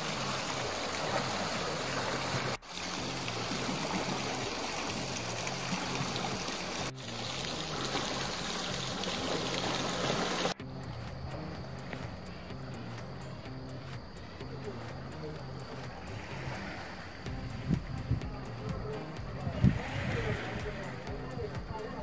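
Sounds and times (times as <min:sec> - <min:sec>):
water lapping around rocks: 0:00.0 - 0:21.7.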